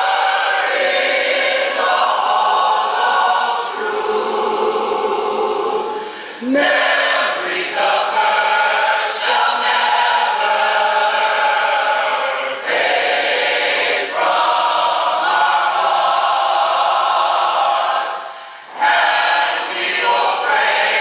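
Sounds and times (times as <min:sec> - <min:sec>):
mixed choir singing: 0:00.0 - 0:21.0.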